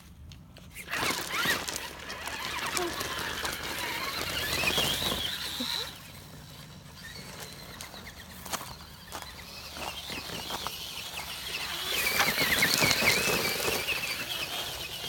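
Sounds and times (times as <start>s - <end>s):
tyres crackling on gravel: 0.2s - 15.0s
toy truck motor whine: 0.7s - 15.0s.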